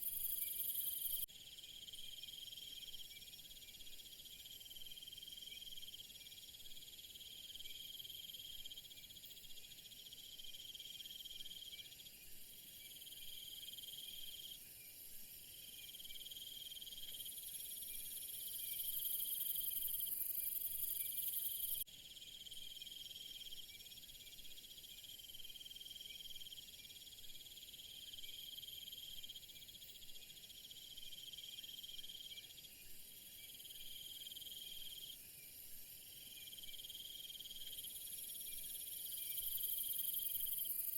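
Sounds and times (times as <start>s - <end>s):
constant high insect shrill: 0.0s - 40.9s
insect trill: 0.0s - 40.9s.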